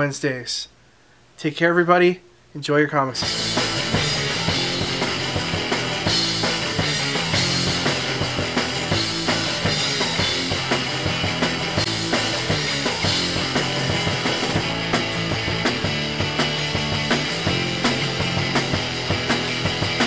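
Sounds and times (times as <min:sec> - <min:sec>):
drum kit beat: 0:03.2 - 0:20.0
rock music: 0:03.2 - 0:20.0.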